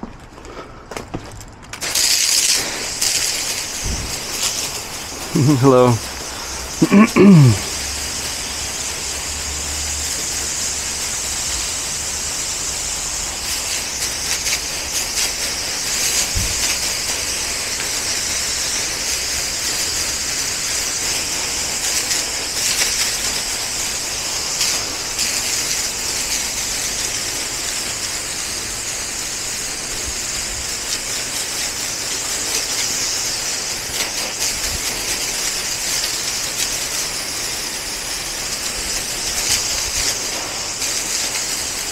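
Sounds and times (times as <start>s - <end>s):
pressure washer spraying concrete: 1.3s - 41.9s.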